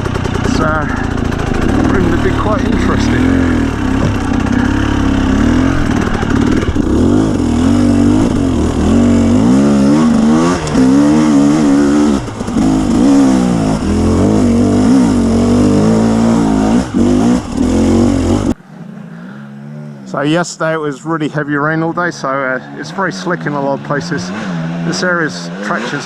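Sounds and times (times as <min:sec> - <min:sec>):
dirt bike engine revving: 0:00.0 - 0:19.0, 0:22.4 - 0:26.0.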